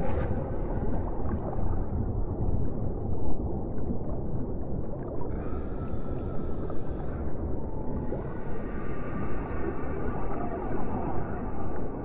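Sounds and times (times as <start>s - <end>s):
underwater water rumble: 0.0s - 12.0s.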